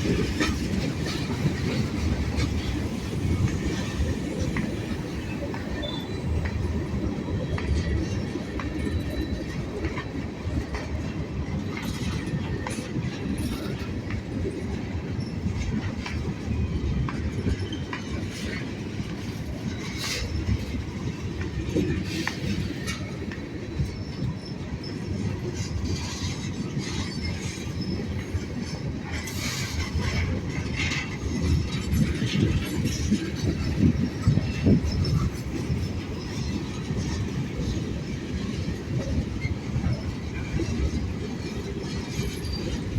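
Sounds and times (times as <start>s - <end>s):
freight train rumbling: 0.0s - 42.9s
wheels clattering over rail joints: 0.0s - 42.9s.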